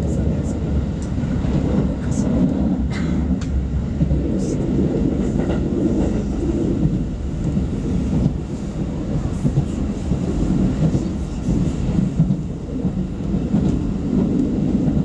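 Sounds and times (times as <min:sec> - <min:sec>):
train rumbling at speed: 0:00.0 - 0:15.0.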